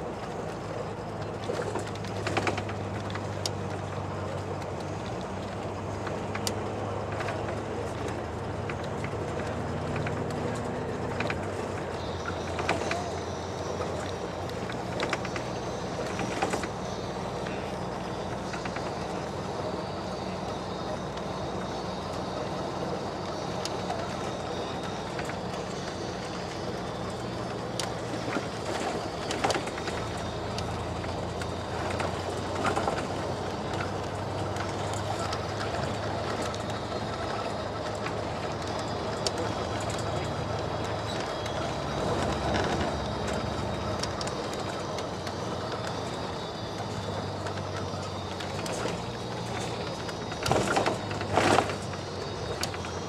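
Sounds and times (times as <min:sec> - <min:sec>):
low hum shifting in pitch: 0:00.0 - 0:53.0
road noise: 0:00.0 - 0:53.0
vehicle engine drone: 0:00.0 - 0:53.0.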